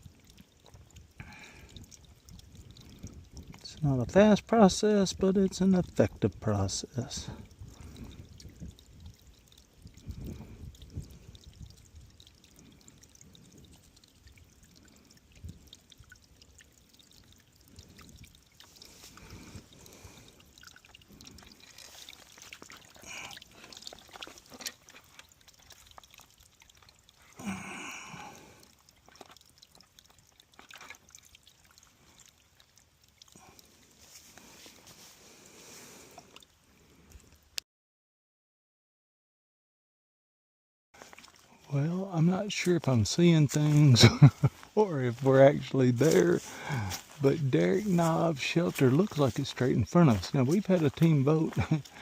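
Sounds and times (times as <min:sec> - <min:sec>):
water trickling into a container: 0:00.0 - 0:37.6, 0:41.0 - 0:52.0.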